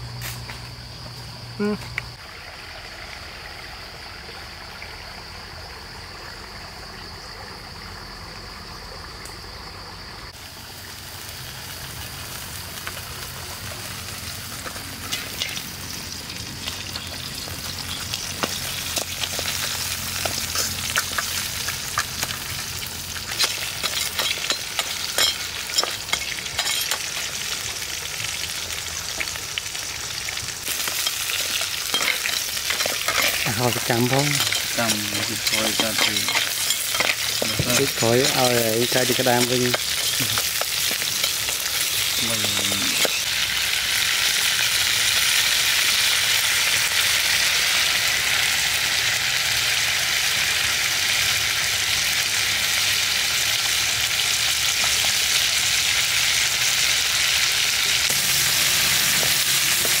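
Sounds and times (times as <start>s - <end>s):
insects buzzing: 0.0s - 52.0s, 52.6s - 60.0s
food frying in hot oil: 10.2s - 60.0s.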